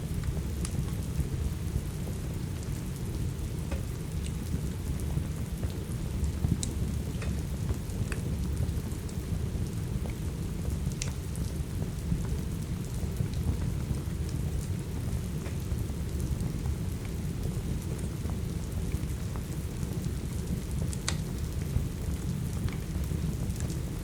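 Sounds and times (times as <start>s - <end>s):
heavy rain rumbling: 0.0s - 24.0s
wood fire crackling: 0.0s - 24.0s.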